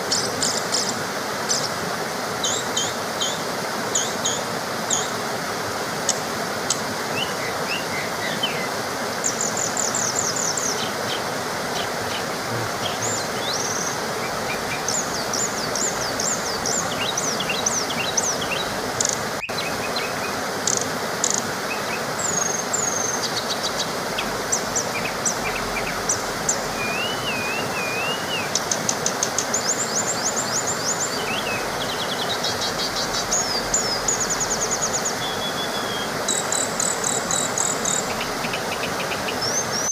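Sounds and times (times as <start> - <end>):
small waterfall rushing: 0.0 - 39.9
birds singing: 2.4 - 5.2, 6.1 - 39.9.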